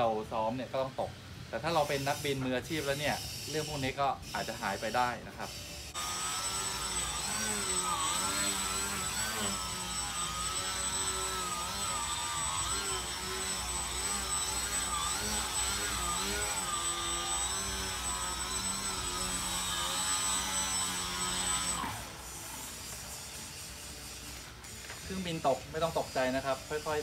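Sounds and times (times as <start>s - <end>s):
thin high whine: 0.0s - 27.0s
model airplane motor buzzing: 0.7s - 27.0s.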